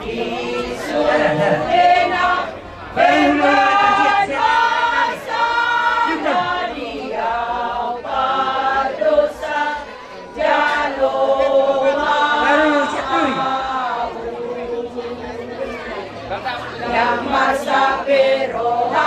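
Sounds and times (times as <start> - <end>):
women singing together: 0.0 - 16.1, 16.7 - 19.0.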